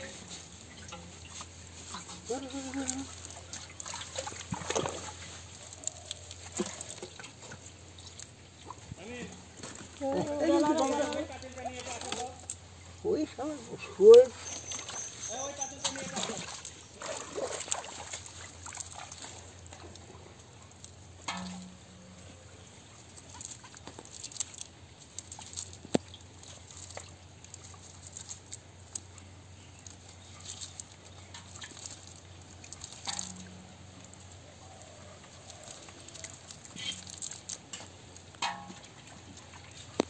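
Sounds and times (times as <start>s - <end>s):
wet net handling pats and rustles: 0.0s - 21.0s, 21.8s - 40.0s.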